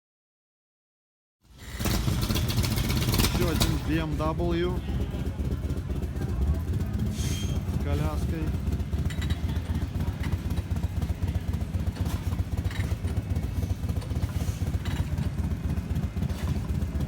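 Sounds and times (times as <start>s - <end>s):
motorcycle engine idling: 1.6s - 17.0s.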